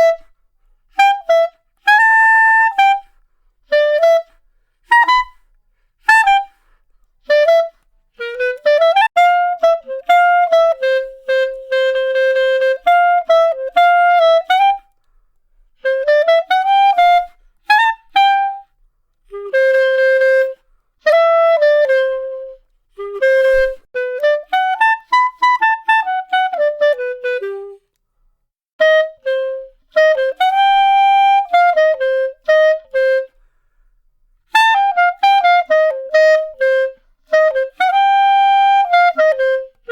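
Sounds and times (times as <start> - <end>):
solo clarinet melody: 0.0 - 28.0, 28.8 - 33.6, 34.4 - 39.9.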